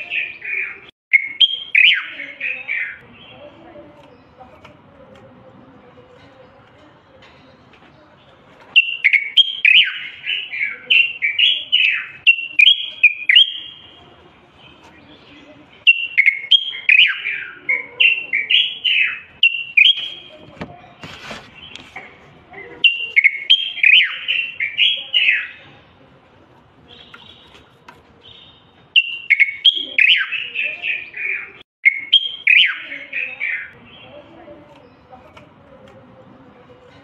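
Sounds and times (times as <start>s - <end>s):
bulbul singing: 0.0s - 21.0s, 22.6s - 26.0s, 26.8s - 35.6s.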